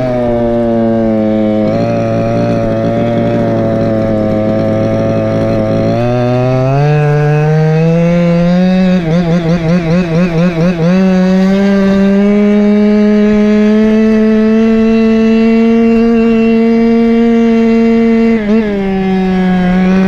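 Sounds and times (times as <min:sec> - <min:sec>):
scooter two-stroke engine revving: 0:00.0 - 0:20.0.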